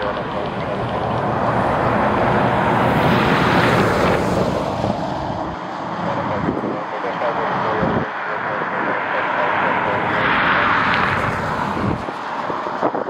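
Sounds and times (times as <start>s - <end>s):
airliner engine noise: 0.0s - 13.0s
wind buffeting microphone: 0.0s - 13.0s.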